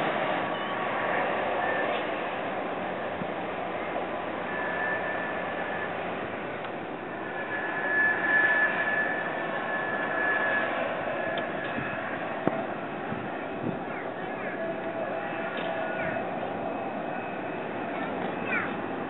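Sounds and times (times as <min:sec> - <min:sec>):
jet engines rushing and whining: 0:00.0 - 0:19.0.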